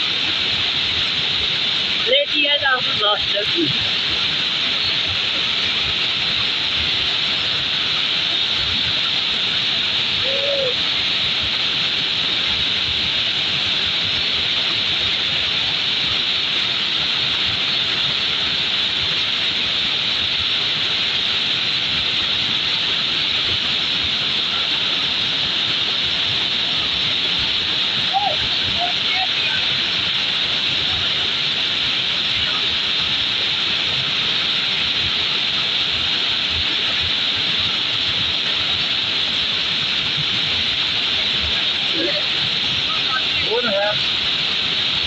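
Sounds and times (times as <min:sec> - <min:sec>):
floodwater rushing over rocks: 0:00.0 - 0:45.0.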